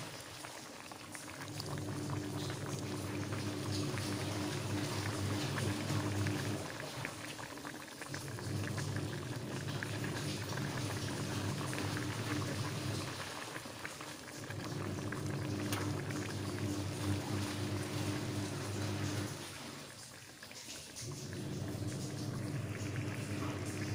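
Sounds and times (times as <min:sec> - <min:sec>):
curry bubbling in a pan: 0:00.0 - 0:23.9.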